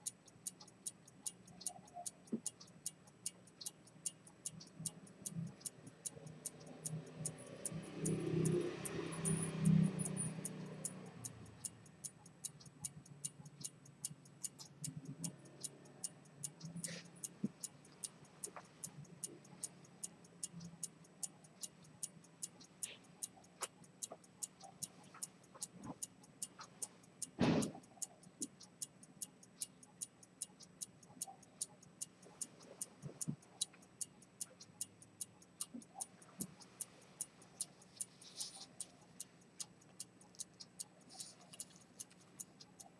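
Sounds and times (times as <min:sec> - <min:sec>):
pocket watch ticking: 0:00.0 - 0:42.9.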